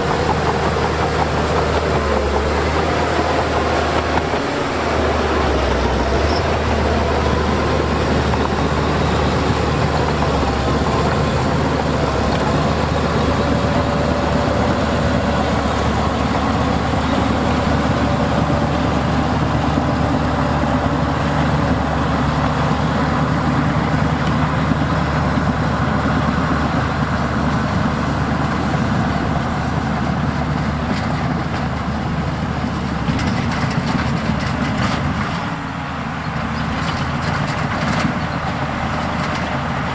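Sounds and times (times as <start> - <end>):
diesel engine low drone: 0.0 - 39.9.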